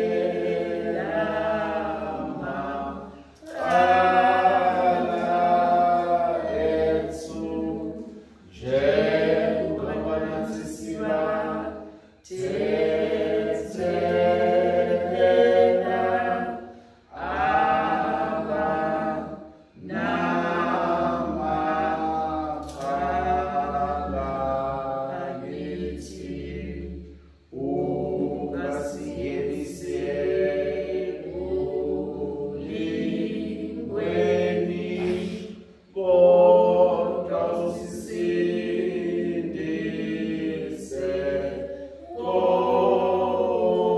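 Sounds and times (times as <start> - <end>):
unaccompanied hymn singing: 0.0 - 43.9.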